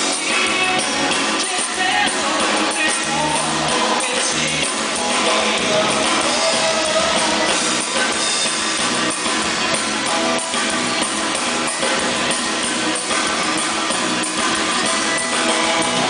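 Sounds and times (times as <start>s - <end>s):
live band with guitar and drums: 0.0s - 16.0s.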